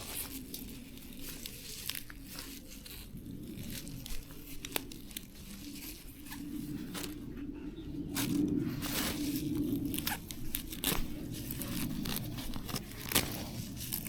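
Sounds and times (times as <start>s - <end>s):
leaves and stems snapping: 0.0s - 14.0s.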